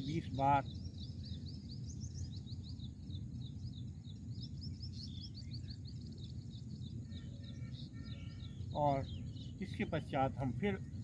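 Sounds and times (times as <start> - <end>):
bird chirping rapidly: 0.0 - 11.0
low outdoor rumble: 0.0 - 11.0.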